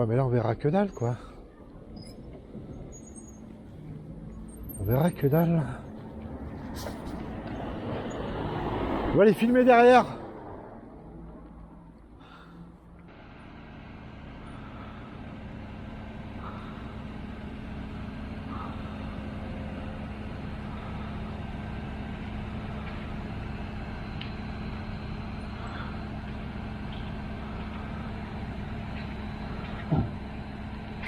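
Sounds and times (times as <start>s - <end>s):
heavy vehicle engine running: 0.8s - 31.0s.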